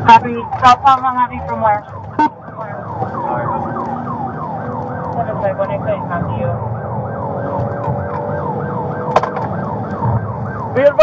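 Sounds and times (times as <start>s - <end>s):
car engine: 0.0s - 11.0s
police siren yelping: 0.0s - 11.0s
road noise: 0.0s - 11.0s.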